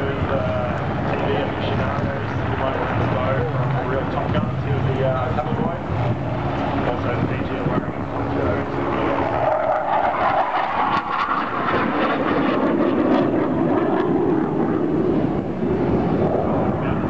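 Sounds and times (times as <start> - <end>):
jet roar passing: 0.0 - 17.0.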